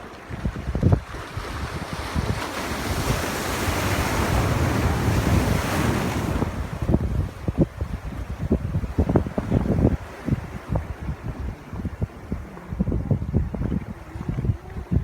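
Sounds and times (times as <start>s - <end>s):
ocean wave breaking: 0.0s - 12.8s
wind buffeting microphone: 0.0s - 15.0s.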